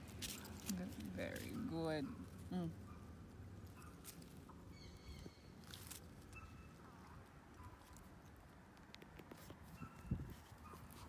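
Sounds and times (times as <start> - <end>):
light patter: 0.0 - 11.0.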